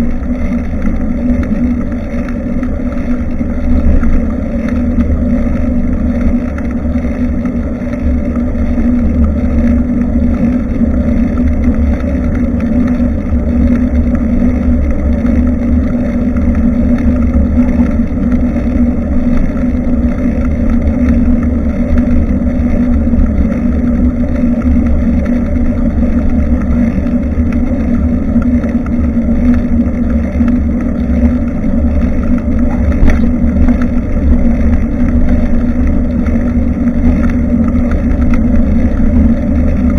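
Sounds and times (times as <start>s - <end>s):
road rumble: 0.0s - 39.9s
wind buffeting microphone: 0.0s - 39.9s.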